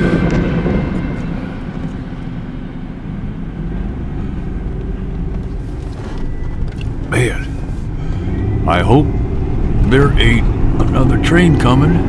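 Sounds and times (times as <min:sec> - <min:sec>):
low car cabin rumble: 0:00.0 - 0:12.0.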